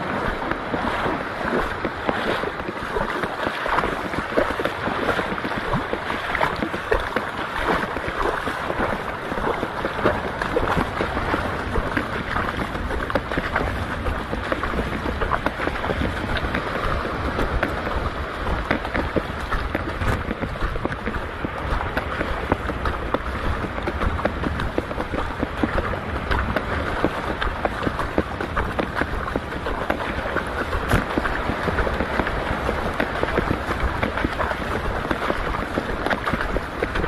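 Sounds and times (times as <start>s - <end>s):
water sloshing and splashing: 0.0s - 37.0s
wind on microphone: 0.0s - 37.0s.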